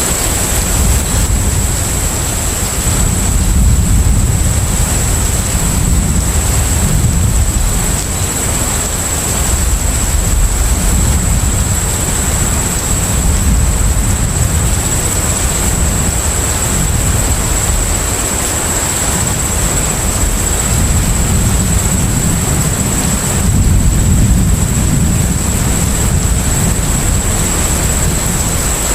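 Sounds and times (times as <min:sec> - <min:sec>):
sea and wind noise: 0:00.0 - 0:28.9
ship engine rumble: 0:00.0 - 0:28.9.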